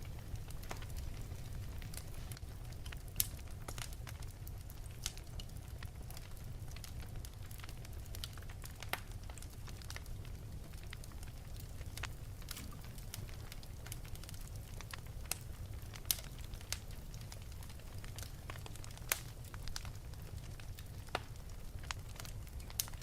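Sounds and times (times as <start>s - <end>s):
fire crackling and popping: 0.0s - 23.0s
low rumble of flames: 0.0s - 23.0s.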